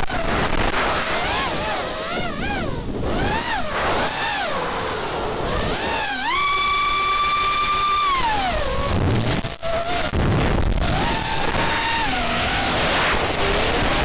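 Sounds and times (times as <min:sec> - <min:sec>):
wind rushing on microphone: 0:00.0 - 0:06.9, 0:07.7 - 0:14.0
drone motors whining: 0:00.0 - 0:14.0.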